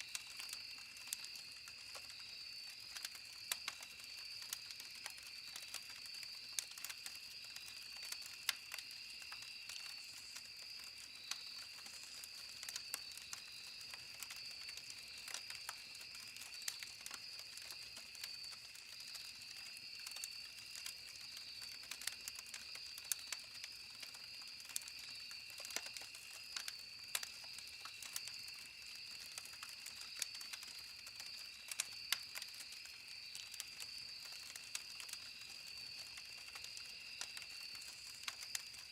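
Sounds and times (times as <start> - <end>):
campfire crackling and popping: 0.0 - 38.9
insects chirping: 0.0 - 38.9.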